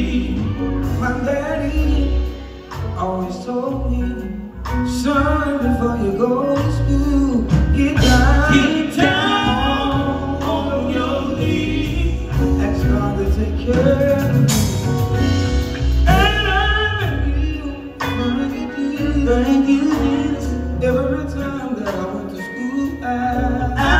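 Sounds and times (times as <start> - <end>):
band with low bass line: 0.0 - 23.9
men singing gospel: 0.0 - 23.9.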